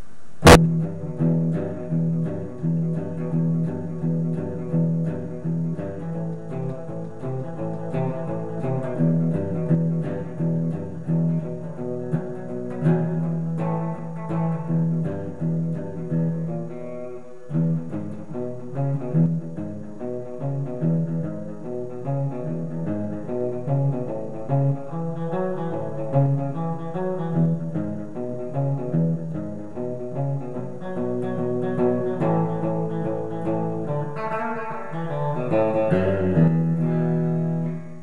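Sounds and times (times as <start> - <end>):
electric guitar country licks: 0.4 - 38.0.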